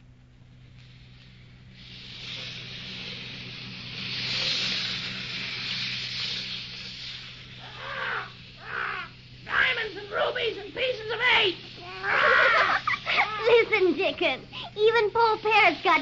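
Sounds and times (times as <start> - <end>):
steady low hum: 0.0 - 16.0
hissing rush: 0.6 - 16.0.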